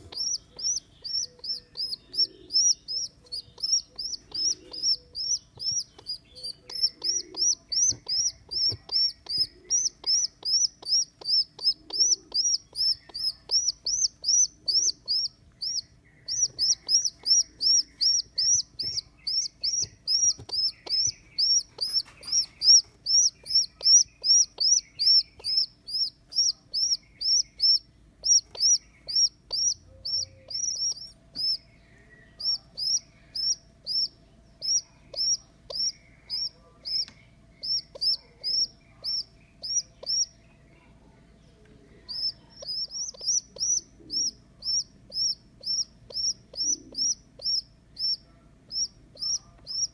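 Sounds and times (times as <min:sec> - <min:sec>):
baby pigeon squeaking: 0:00.0 - 0:40.4, 0:41.9 - 0:49.9.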